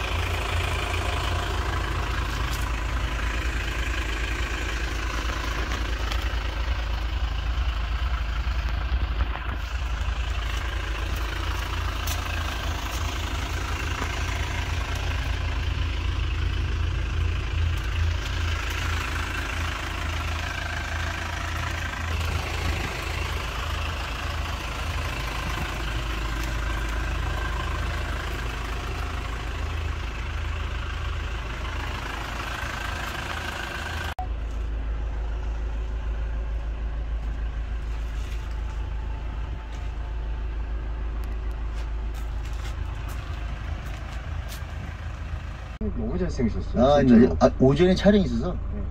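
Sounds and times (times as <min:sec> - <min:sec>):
van engine idling: 0:00.0 - 0:48.9.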